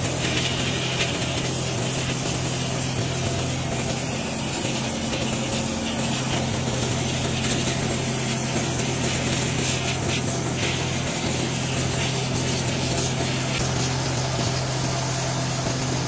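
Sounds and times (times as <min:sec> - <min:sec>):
hiss of sandblasting gun: 0:00.0 - 0:16.0
low machine hum: 0:00.0 - 0:16.0.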